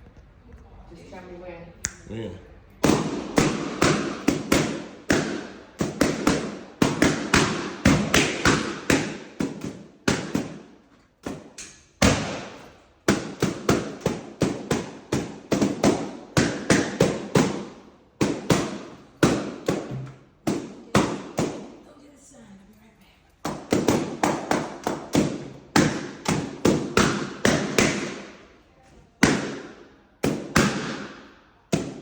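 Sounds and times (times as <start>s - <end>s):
balloons popping: 2.8s - 21.8s, 23.4s - 28.5s, 29.2s - 32.0s.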